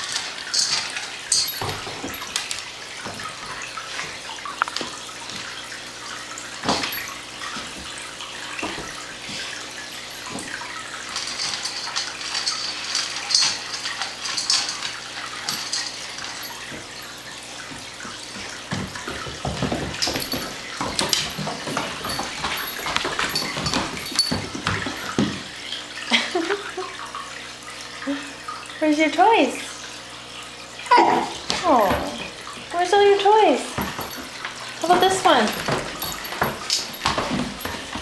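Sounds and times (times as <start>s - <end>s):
puppy claws clicking on wood floor: 0.0s - 5.6s, 6.6s - 25.5s, 31.4s - 38.0s.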